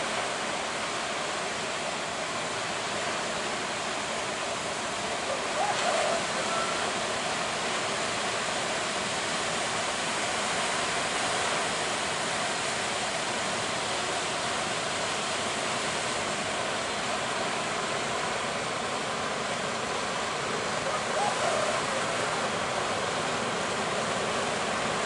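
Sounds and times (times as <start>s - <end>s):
waves breaking: 0.0s - 25.0s.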